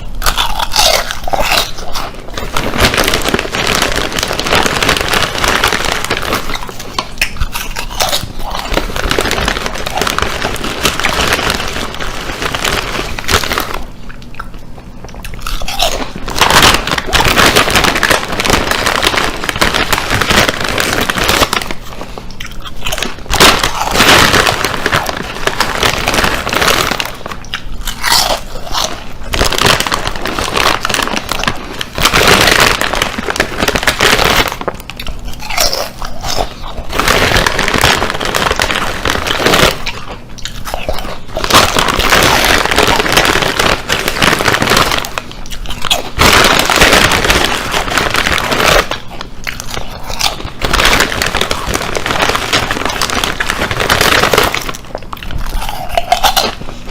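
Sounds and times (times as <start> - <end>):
chips being chewed: 0.0 - 56.9.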